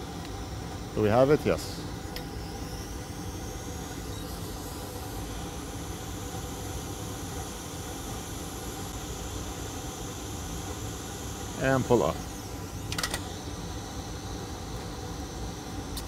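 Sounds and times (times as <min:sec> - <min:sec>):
faint high whine: 0:00.0 - 0:16.0
hot air blower hissing: 0:00.0 - 0:16.0.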